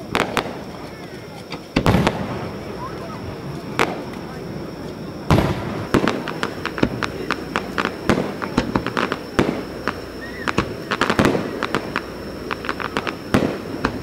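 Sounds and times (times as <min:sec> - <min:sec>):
fireworks crackling bangs: 0:00.0 - 0:14.0
heavy firework booms: 0:00.0 - 0:14.0.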